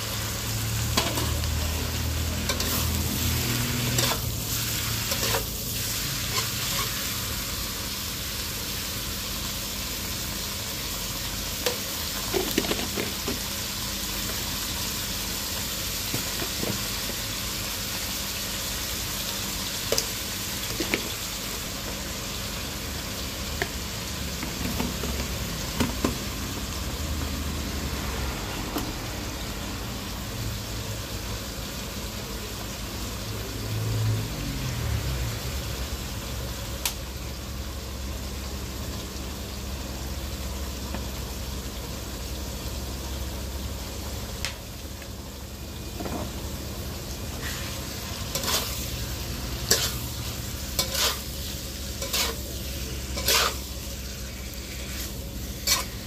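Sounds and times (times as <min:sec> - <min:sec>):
squid sizzling in a wok: 0:00.0 - 0:56.0.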